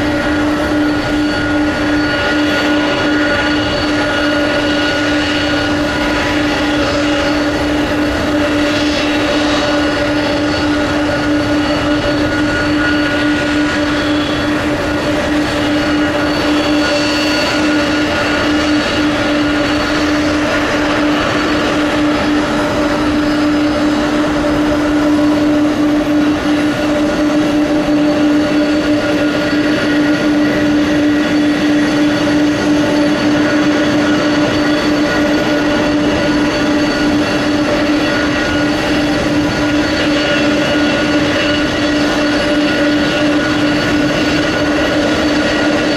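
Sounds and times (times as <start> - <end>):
jet engines humming and whining: 0.0 - 45.9.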